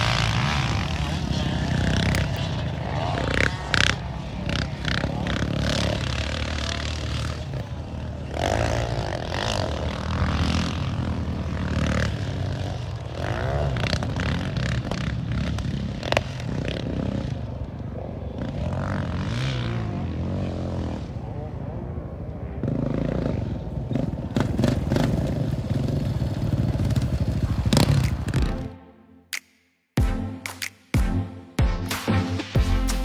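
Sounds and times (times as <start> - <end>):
quad engine revving: 0.0 - 28.7.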